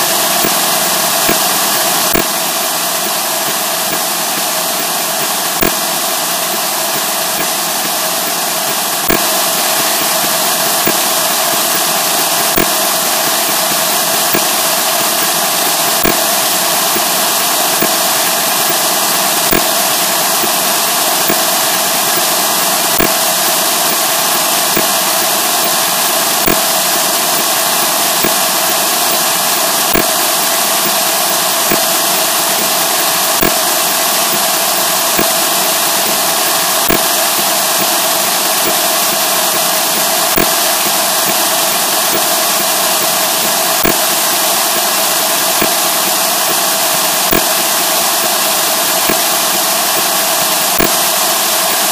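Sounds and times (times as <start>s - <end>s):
harsh distorted noise: 0.0s - 51.9s.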